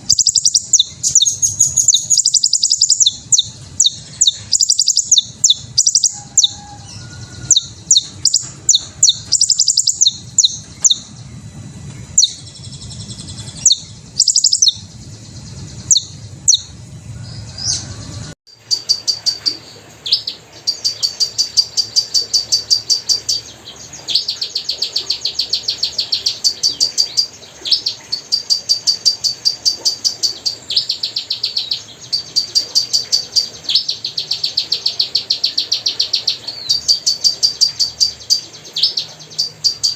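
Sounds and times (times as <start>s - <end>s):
hummingbirds chirping and twittering: 0.0s - 39.9s.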